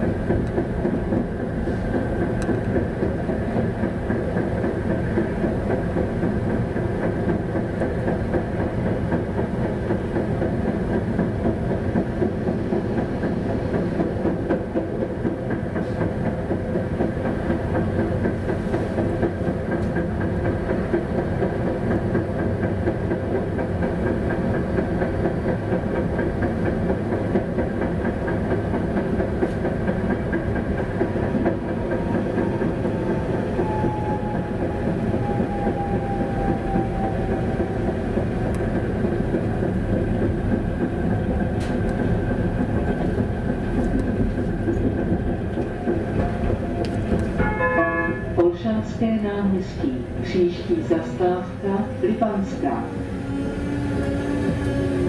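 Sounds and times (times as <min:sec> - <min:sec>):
tram wheels rumbling on rails: 0:00.0 - 0:55.0.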